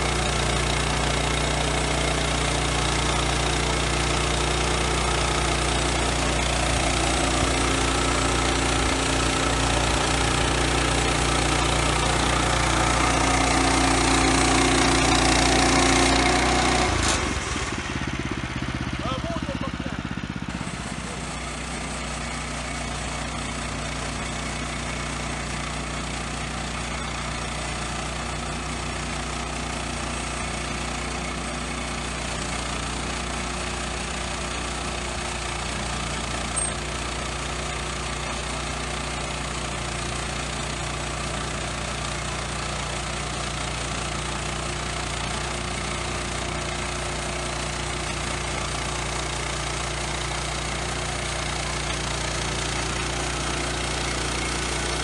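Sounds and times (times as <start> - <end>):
band saw cutting log: 0.0 - 18.2, 20.5 - 55.0
gasoline engine running: 0.0 - 55.0.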